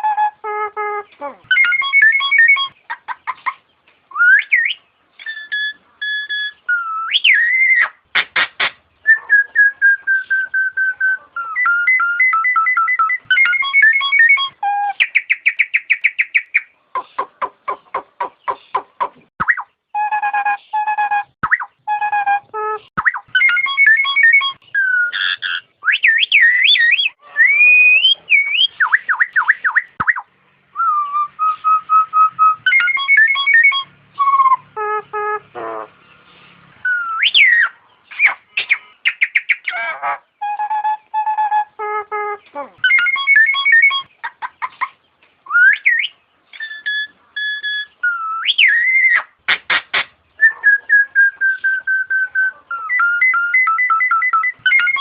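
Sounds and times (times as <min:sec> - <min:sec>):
myna whistling song: 0:00.0 - 0:08.0, 0:08.6 - 0:35.5, 0:36.8 - 0:49.4, 0:50.3 - 0:55.0.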